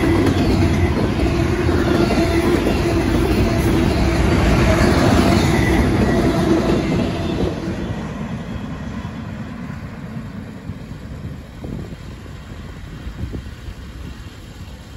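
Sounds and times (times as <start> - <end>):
freight train rolling past: 0.0 - 14.9.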